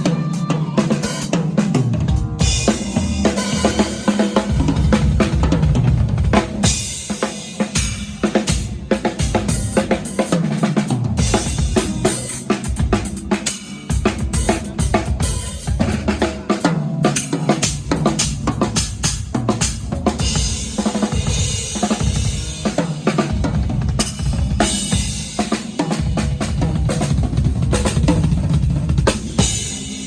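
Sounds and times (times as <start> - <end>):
fast rock drumming: 0.0 - 30.0.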